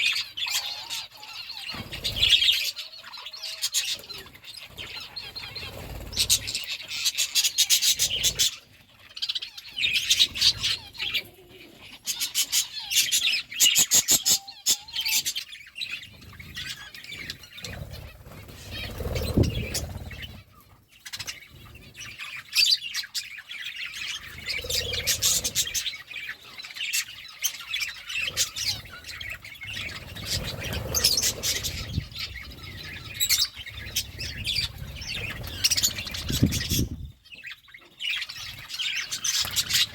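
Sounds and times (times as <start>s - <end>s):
parakeets chirping and chattering: 0.0s - 39.9s.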